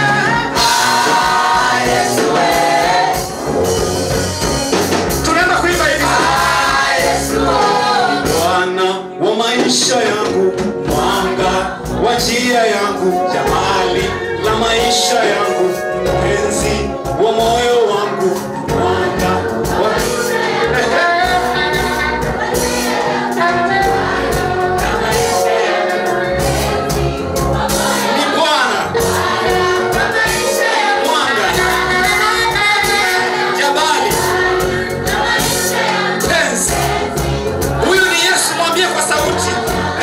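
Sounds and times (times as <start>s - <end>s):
choir singing in harmony: 0.0s - 40.0s
instrumental backing with steady beat: 0.0s - 40.0s.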